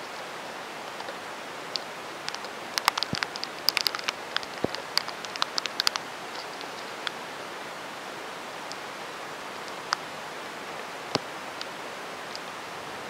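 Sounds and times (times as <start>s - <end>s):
raindrops tapping near microphone: 0.0s - 12.7s
heavy rain pouring: 0.0s - 13.0s.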